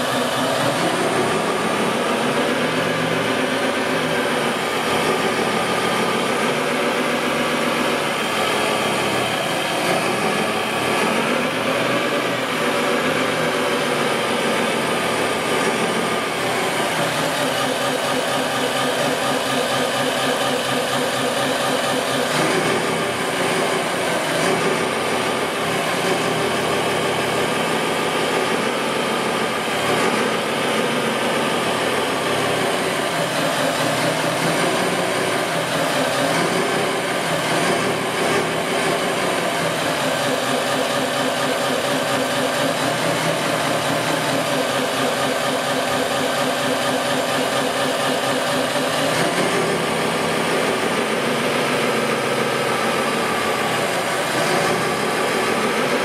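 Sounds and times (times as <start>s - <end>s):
engine-like drone: 0.0s - 56.0s.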